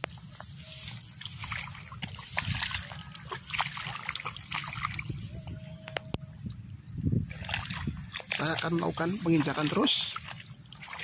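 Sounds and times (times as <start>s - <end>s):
feet splashing through shallow water: 0.0s - 6.1s, 7.2s - 11.0s.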